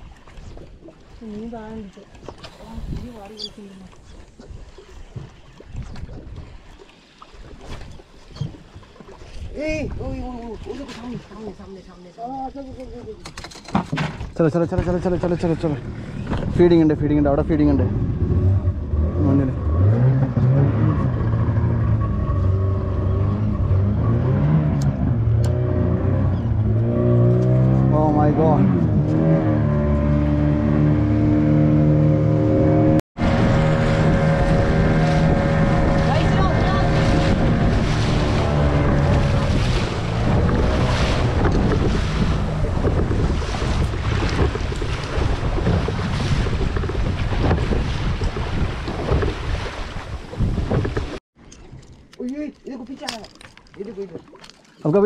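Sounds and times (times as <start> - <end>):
wind buffeting microphone: 0.0 - 6.7, 7.4 - 11.3, 12.4 - 52.0
boat engine running: 0.0 - 52.1
water rushing and splashing: 0.0 - 55.0.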